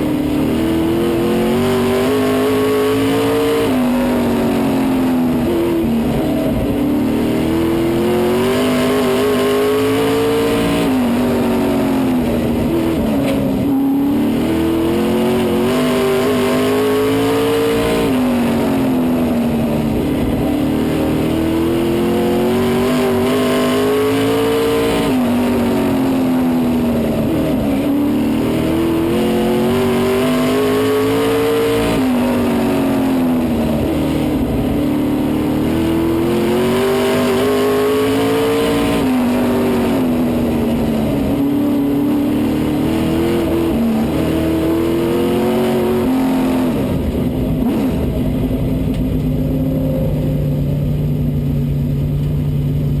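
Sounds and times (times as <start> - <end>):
race car engine revving: 0.0 - 52.3.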